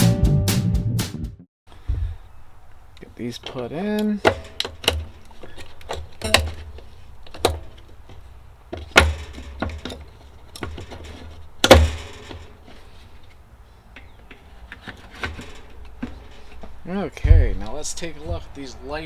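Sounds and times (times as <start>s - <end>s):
batteries clunking into holder: 1.7s - 18.8s.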